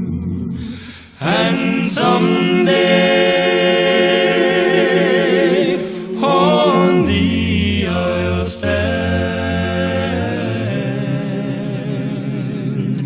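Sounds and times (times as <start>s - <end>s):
a cappella vocal quartet singing: 0.0s - 13.0s.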